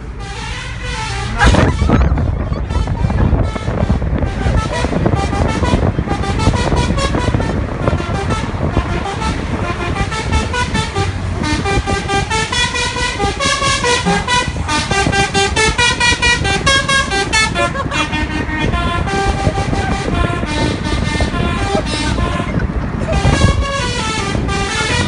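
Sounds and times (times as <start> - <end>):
truck engine rumble: 0.0 - 25.0
musical horn stuttering notes: 0.2 - 25.0.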